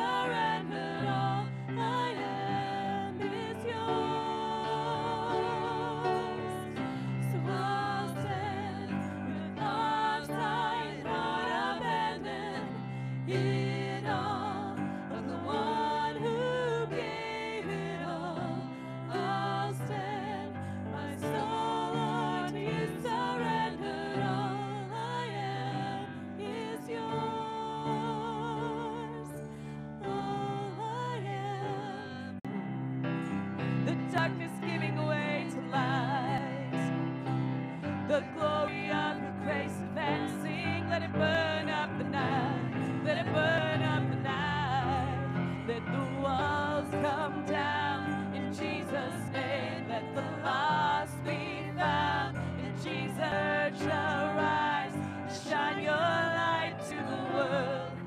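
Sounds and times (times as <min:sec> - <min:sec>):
women singing a worship song: 0:00.0 - 0:32.5, 0:33.6 - 0:58.0.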